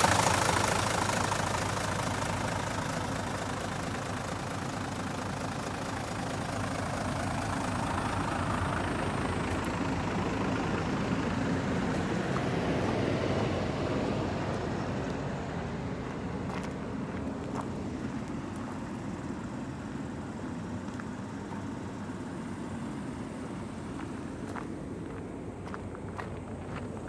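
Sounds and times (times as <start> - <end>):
bus diesel engine idling: 0.0 - 27.0.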